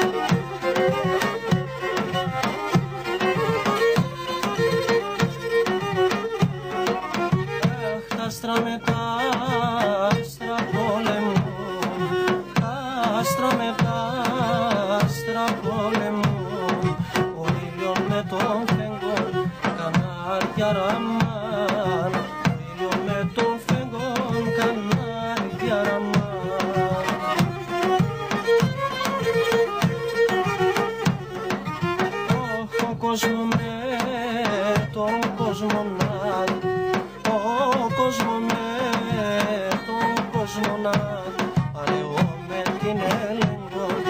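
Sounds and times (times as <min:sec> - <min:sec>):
bowed string melody: 0:00.0 - 0:44.0
steady drum beat: 0:00.0 - 0:44.0.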